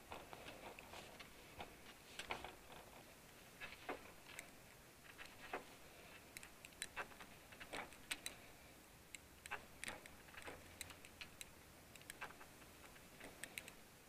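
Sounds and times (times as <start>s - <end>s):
faint irregular clicks: 0.1s - 13.9s.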